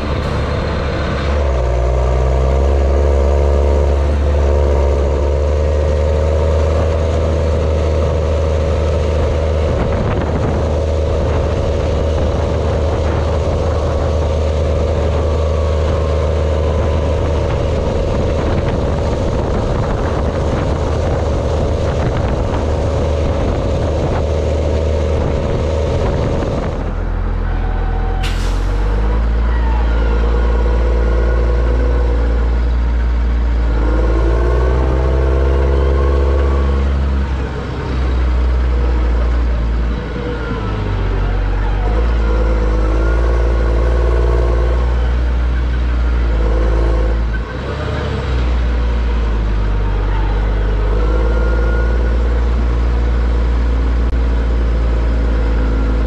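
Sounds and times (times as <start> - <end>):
tractor diesel engine running: 0.0 - 56.0
tyre and road noise: 0.0 - 56.0.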